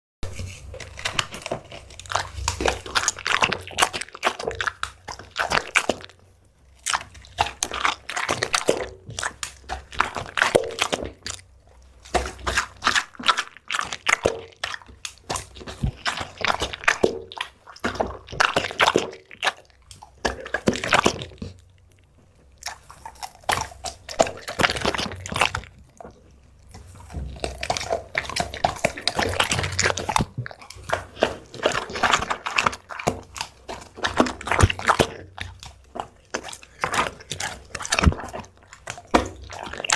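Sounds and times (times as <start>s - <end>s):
pet chewing and crunching: 0.2s - 39.9s.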